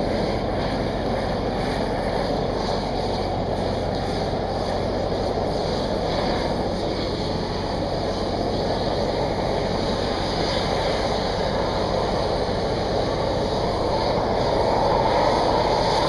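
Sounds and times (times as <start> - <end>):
hot air lance blasting: 0.0 - 16.0.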